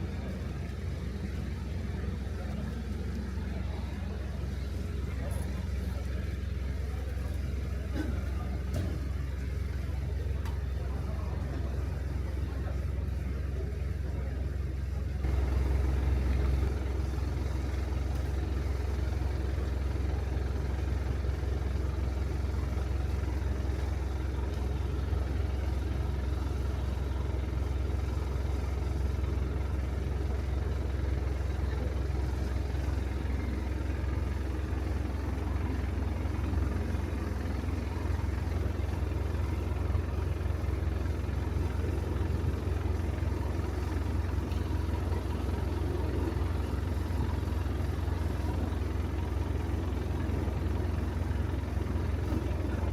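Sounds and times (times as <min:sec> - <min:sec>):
vehicle engine rumbling: 0:00.0 - 0:52.9.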